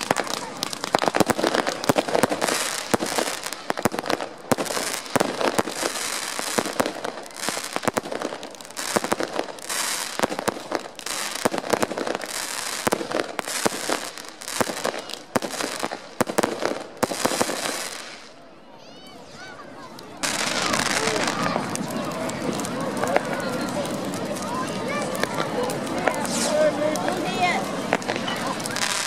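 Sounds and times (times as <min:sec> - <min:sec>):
fireworks crackling and popping: 0:00.0 - 0:18.6, 0:19.2 - 0:29.0.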